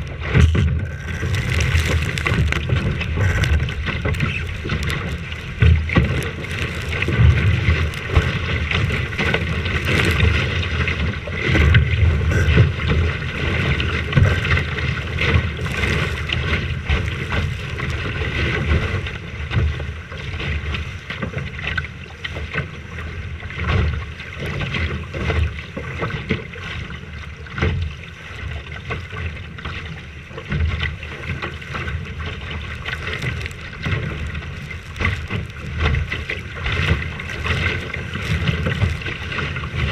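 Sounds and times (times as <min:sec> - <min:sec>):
hiss of wind and water: 0:00.0 - 0:39.9.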